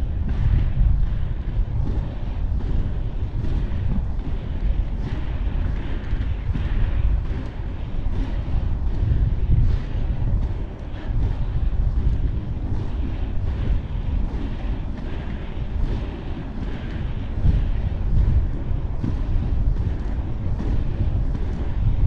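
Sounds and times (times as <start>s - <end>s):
wind buffeting microphone: 0.0s - 22.0s
inline skate strides on pavement: 0.1s - 22.0s.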